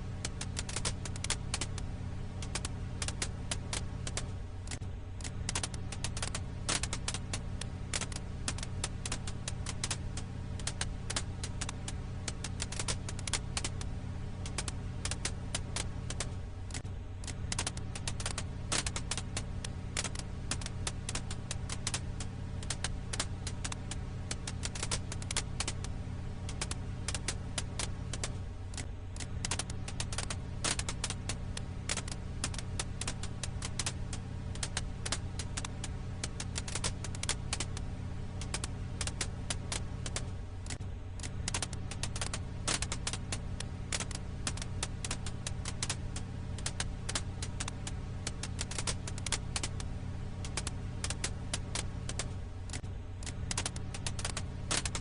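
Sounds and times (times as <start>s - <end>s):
campfire crackling and popping: 0.0s - 55.0s
low rumble: 0.0s - 55.0s.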